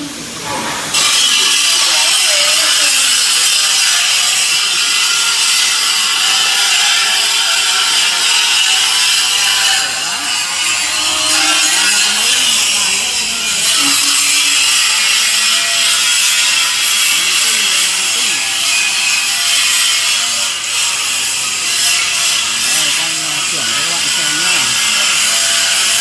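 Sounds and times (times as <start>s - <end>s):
grinding wheel on stone: 0.5s - 26.0s.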